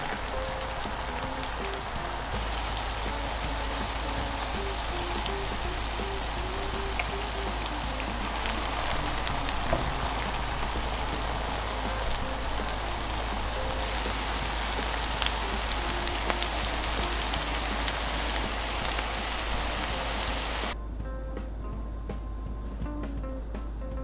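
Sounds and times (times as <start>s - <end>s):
oil crackling and popping: 0.0s - 20.8s
potato patties sizzling in oil: 0.0s - 20.8s.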